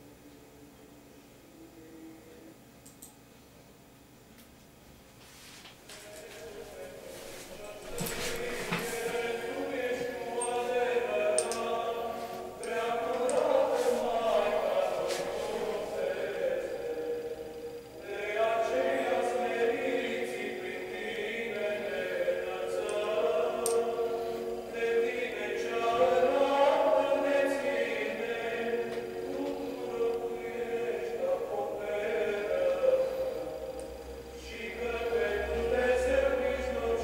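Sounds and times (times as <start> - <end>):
choir chanting long notes: 0.0 - 2.7, 5.9 - 37.0.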